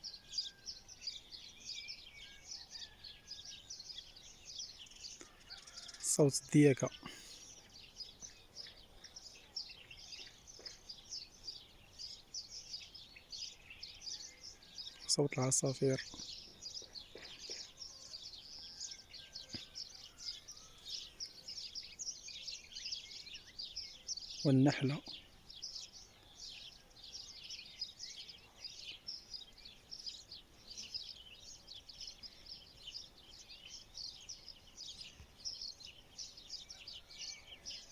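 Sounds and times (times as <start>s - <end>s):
songbirds chirping: 0.0s - 37.9s.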